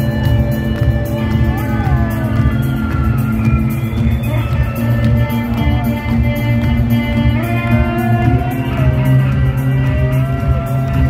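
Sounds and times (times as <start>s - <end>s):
live rock band playing: 0.0s - 11.0s
steady bass: 0.0s - 11.0s.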